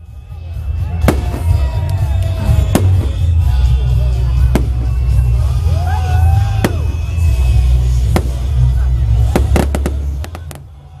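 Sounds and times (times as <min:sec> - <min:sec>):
music with heavy bass: 0:00.0 - 0:11.0
fireworks bangs and crackles: 0:00.8 - 0:11.0.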